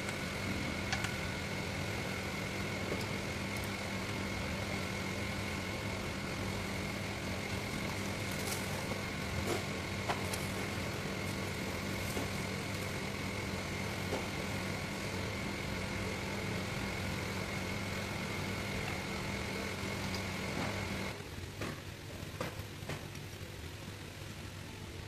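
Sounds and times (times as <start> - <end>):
mechanical hum with high whine: 0.0 - 25.0.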